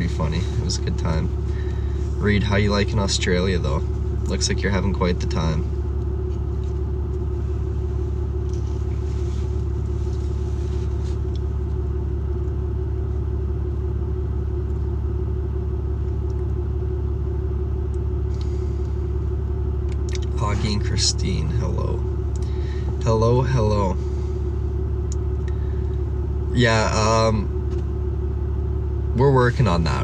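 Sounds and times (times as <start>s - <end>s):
constant hum: 0.0s - 30.0s
truck engine rumbling: 0.0s - 30.0s.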